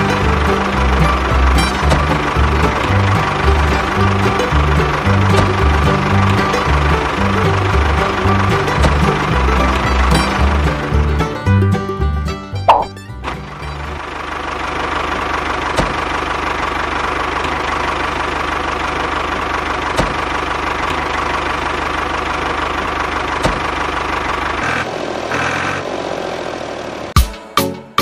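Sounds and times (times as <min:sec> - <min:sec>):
engine idling with knocking: 0:00.0 - 0:27.3.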